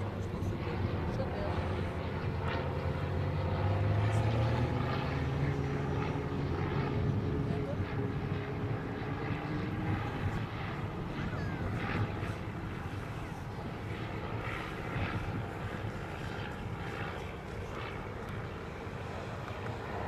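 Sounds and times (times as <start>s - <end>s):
propeller aircraft droning overhead: 0.0s - 20.0s.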